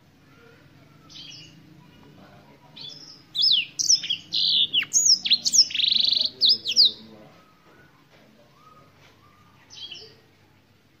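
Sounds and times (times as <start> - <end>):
canary singing: 0.0 - 10.9.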